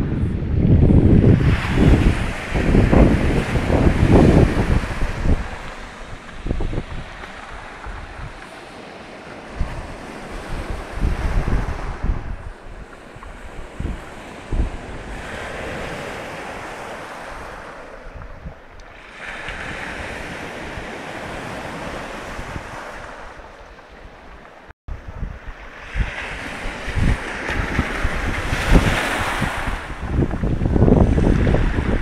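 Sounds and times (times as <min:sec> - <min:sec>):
waves breaking on shore: 0:00.0 - 0:32.0
wind buffeting microphone: 0:00.0 - 0:32.0.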